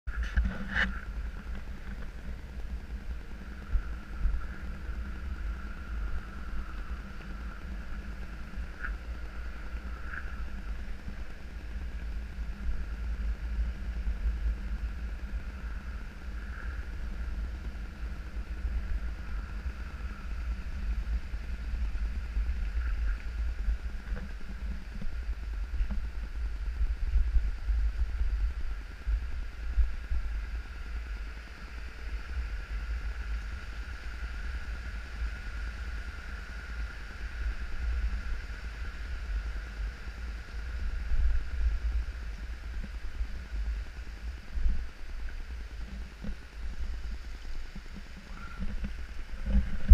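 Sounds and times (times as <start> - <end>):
faint steady hiss: 0.1 - 49.9
wind buffeting microphone: 0.1 - 49.9.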